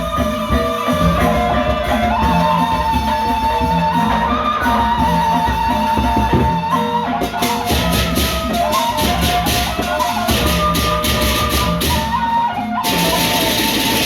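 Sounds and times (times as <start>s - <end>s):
drum beats: 0.0s - 14.0s
long-held melody line: 0.0s - 14.0s.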